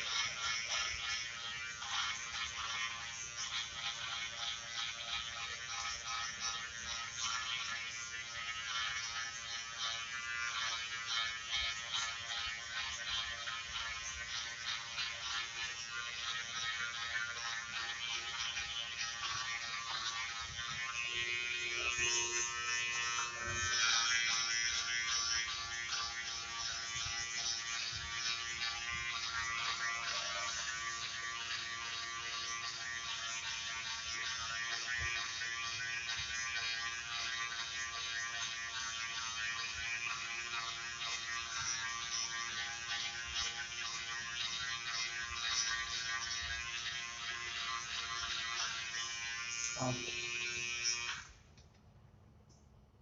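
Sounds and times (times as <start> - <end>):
hair trimmer buzzing: 0.0 - 51.7.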